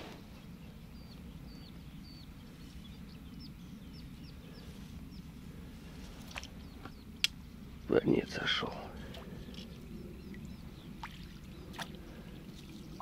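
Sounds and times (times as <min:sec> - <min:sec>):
low background rumble: 0:00.0 - 0:13.0
small bird chirping: 0:00.2 - 0:05.4, 0:06.0 - 0:08.3, 0:09.1 - 0:13.0.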